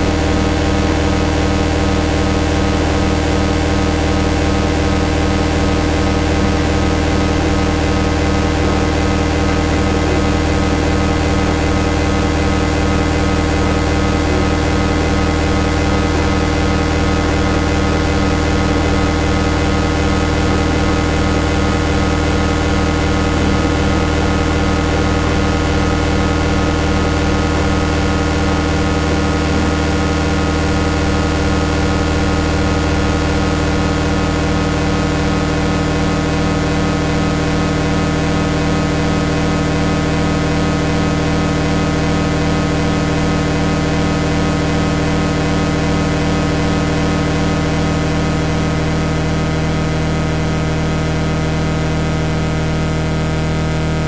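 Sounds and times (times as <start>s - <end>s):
electronic drone hum: 0.0s - 54.0s.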